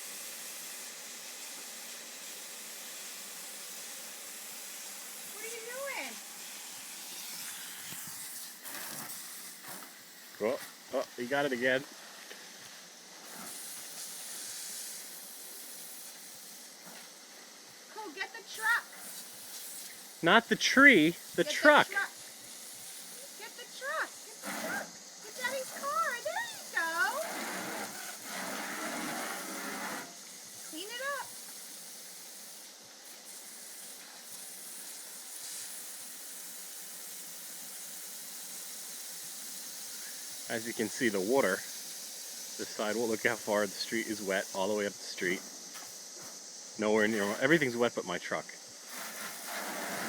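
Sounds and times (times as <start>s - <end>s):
garden hose spraying water: 0.0s - 50.0s.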